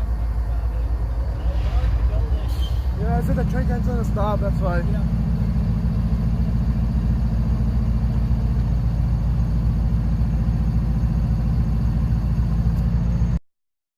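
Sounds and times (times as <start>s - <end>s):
engine idling: 0.0s - 13.4s.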